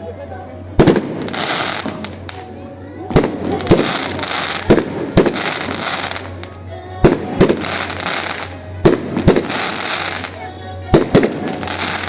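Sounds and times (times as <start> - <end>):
fireworks crackling: 0.0 - 12.0
fireworks bangs: 0.8 - 12.0.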